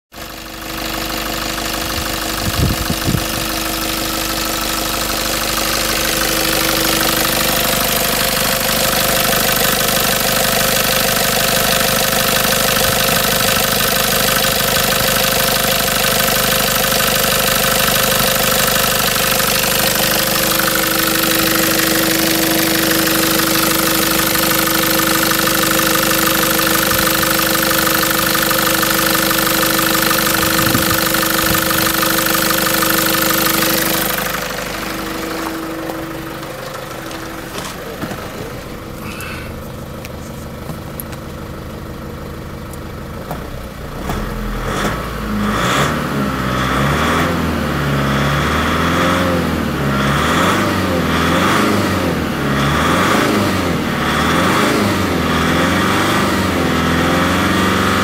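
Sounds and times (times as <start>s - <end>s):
diesel engine idling: 0.2s - 58.0s.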